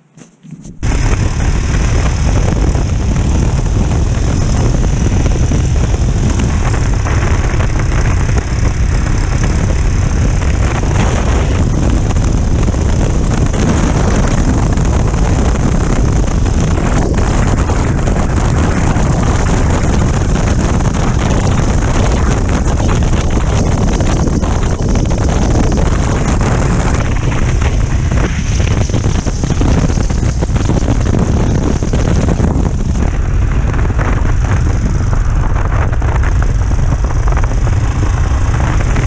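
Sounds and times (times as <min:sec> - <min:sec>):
motorcycle engine: 0:00.0 - 0:39.0
wind buffeting microphone: 0:00.0 - 0:39.0.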